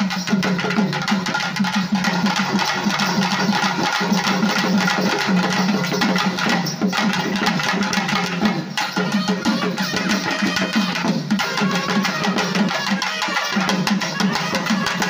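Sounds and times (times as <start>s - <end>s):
barrel drums beating: 0.0s - 15.0s
jingle ring shaking: 0.0s - 15.0s.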